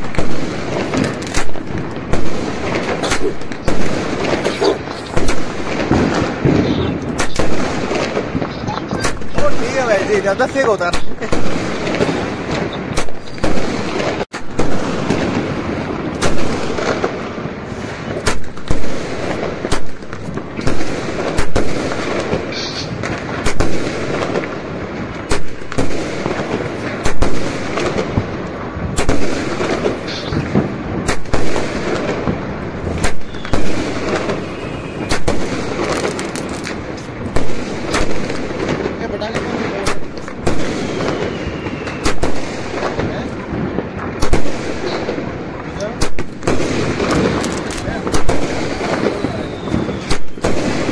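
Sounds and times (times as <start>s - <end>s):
fireworks bangs: 0.0s - 50.9s.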